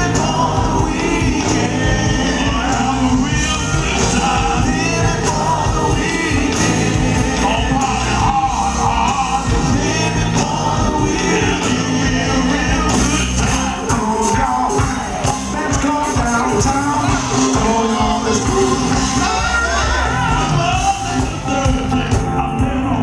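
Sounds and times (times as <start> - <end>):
women backing singers: 0.0 - 22.4
man singing lead: 0.0 - 23.0
soul band playing: 0.0 - 23.0.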